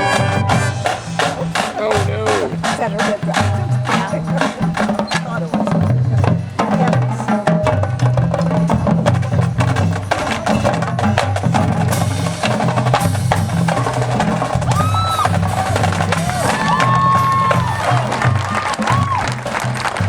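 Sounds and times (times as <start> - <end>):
drumline and percussion: 0.0 - 20.0
marching band playing: 0.0 - 20.0.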